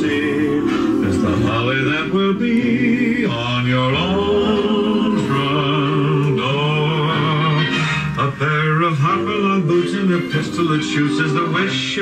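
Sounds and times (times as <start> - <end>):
song with man singing: 0.0 - 12.0.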